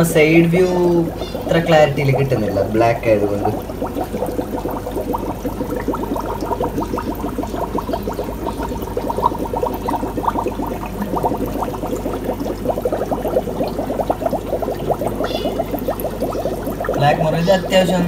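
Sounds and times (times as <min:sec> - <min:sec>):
aquarium air bubbling: 0:00.0 - 0:18.0.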